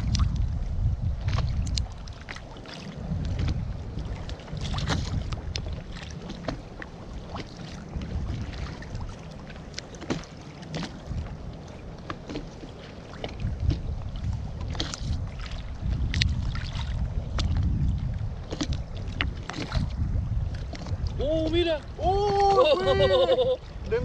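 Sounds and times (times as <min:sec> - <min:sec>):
water lapping against boat hull: 0:00.0 - 0:24.0
wind rumbling on microphone: 0:00.0 - 0:24.0.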